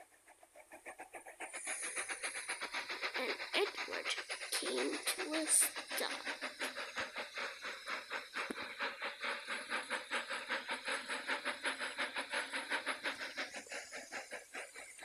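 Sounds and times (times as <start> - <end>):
steam engine chuffing: 0.0 - 15.0.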